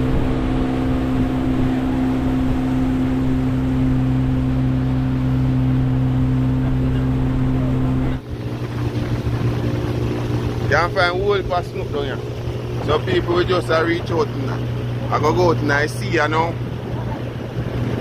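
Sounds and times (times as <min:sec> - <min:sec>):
outboard motor droning: 0:00.0 - 0:18.0
water rushing: 0:00.0 - 0:18.0
wind: 0:00.0 - 0:18.0.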